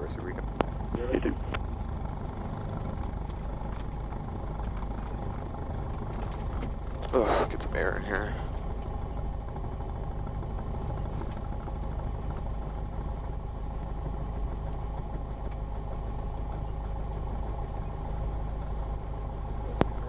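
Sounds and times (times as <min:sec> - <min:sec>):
airplane piston engine idling: 0:00.0 - 0:20.0.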